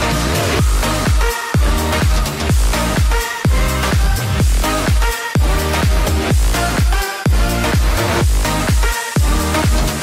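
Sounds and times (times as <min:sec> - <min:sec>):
electronic dance music: 0:00.0 - 0:10.0
held synth chords: 0:00.0 - 0:10.0
kick drum beat: 0:00.6 - 0:10.0.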